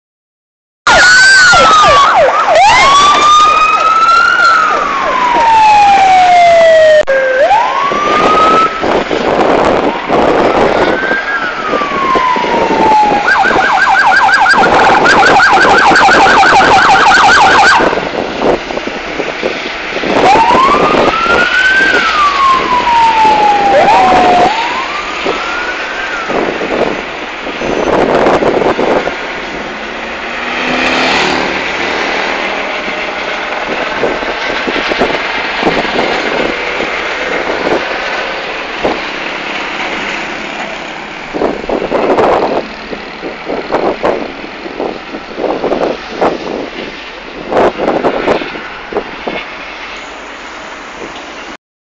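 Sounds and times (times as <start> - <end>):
police sirens wailing and yelping: 0.9 - 49.5.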